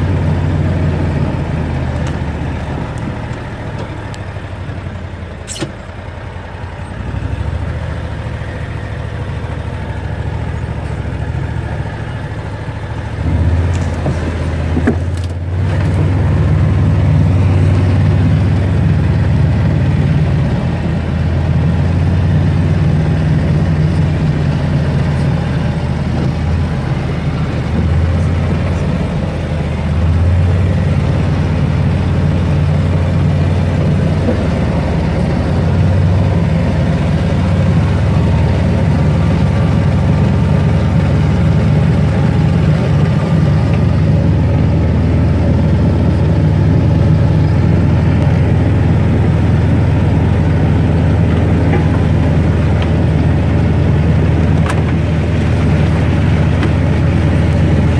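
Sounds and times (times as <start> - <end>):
vehicle engine droning: 0.0 - 57.9.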